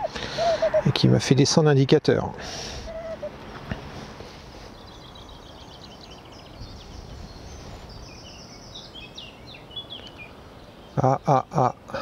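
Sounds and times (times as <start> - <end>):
small birds chirping: 0.0 - 1.1, 2.8 - 12.0.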